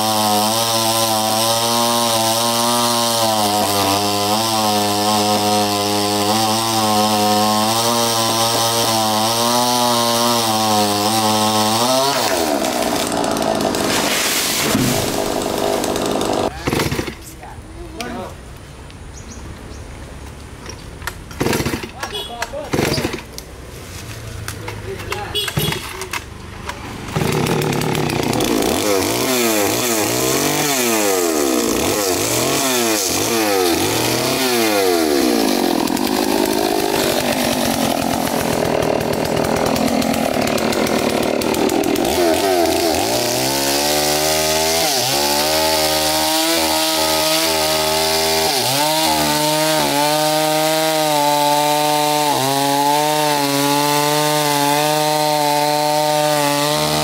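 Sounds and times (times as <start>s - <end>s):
chainsaw revving and cutting: 0.0s - 17.3s, 21.4s - 23.4s, 27.0s - 57.0s.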